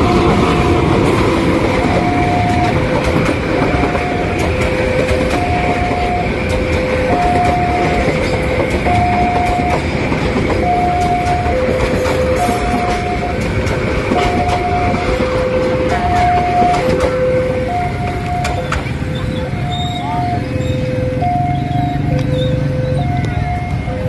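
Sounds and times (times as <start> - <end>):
level crossing warning siren: 0.0 - 24.0
passing train wheel clatter: 0.0 - 24.0.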